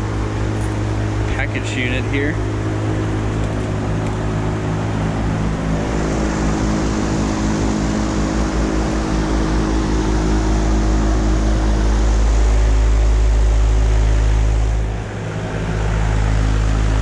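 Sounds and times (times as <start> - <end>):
compressor hum: 0.0 - 17.0
condenser fan rushing: 0.0 - 17.0
deep low rumble: 0.0 - 17.0.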